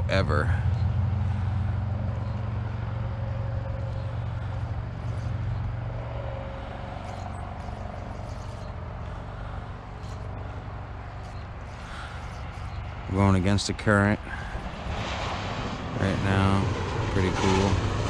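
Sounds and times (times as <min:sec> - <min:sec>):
distant vehicle rumble: 0:00.0 - 0:18.0
faint hum: 0:00.0 - 0:18.0.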